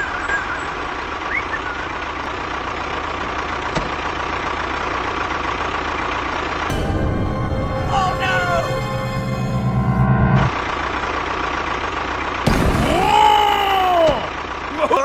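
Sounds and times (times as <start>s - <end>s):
vehicle engine running: 0.0s - 12.7s, 13.6s - 15.0s.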